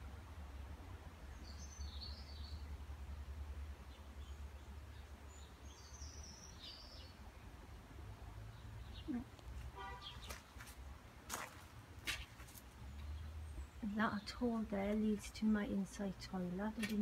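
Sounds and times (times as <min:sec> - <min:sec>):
small birds chirping: 0:01.2 - 0:03.2, 0:03.8 - 0:17.0.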